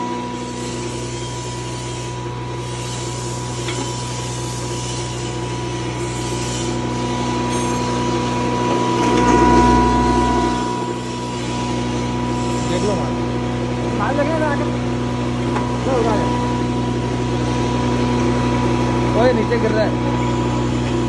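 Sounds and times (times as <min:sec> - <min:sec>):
grinding machine humming: 0:00.0 - 0:21.0.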